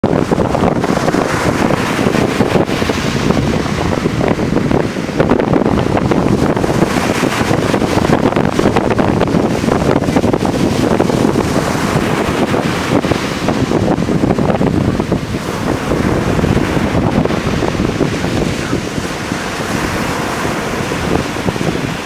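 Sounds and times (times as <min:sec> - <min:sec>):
large sea waves: 0:00.0 - 0:22.0
wind buffeting microphone: 0:00.0 - 0:22.0.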